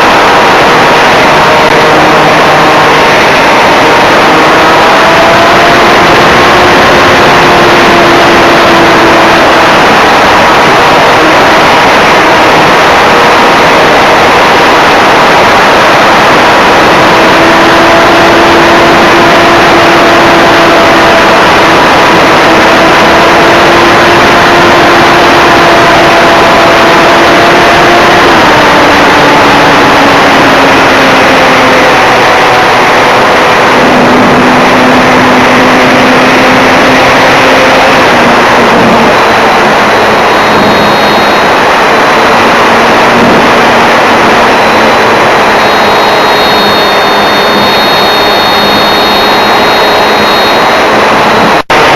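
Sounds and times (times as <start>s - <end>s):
electric motor whine: 0.0s - 51.6s
wind rushing over microphone: 0.0s - 51.9s.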